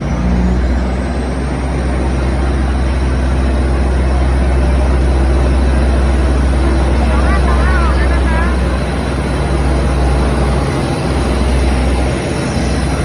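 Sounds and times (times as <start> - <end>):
diesel railcar engine drone: 0.0 - 13.0
rumbling wash of noise: 0.0 - 13.0.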